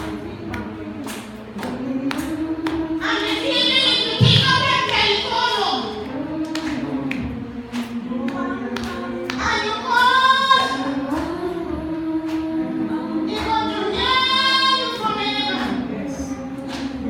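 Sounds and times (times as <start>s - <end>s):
voices singing a hymn: 0.0s - 17.0s.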